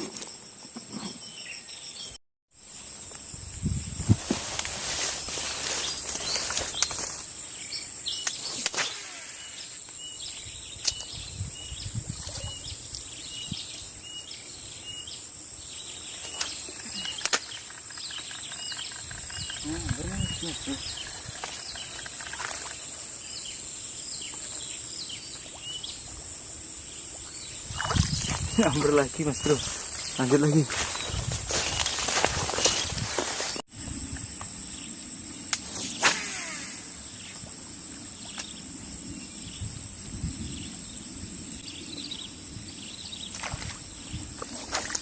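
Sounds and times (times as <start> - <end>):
high-pitched insect drone: 2.6 - 44.2.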